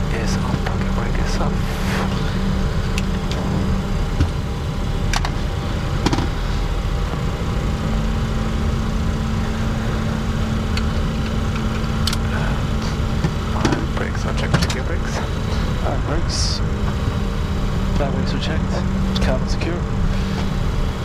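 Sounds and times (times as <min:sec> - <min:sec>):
jet engines humming and hissing: 0:00.0 - 0:21.0.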